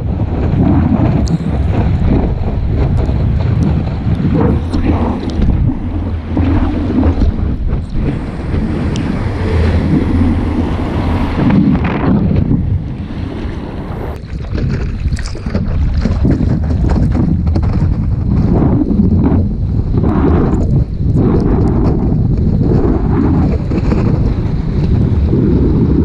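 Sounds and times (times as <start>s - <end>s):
surf and moving water: 0.0s - 26.0s
wind buffeting microphone: 0.0s - 26.0s.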